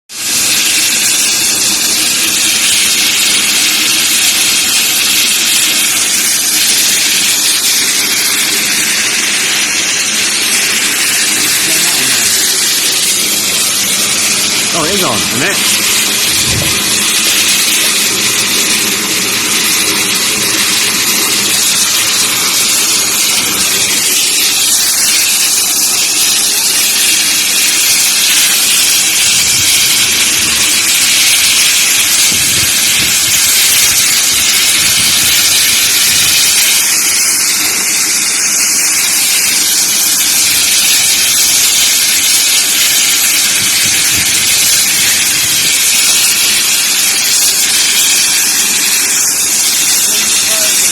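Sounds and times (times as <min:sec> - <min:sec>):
steam locomotive venting steam: 0:00.1 - 0:50.9.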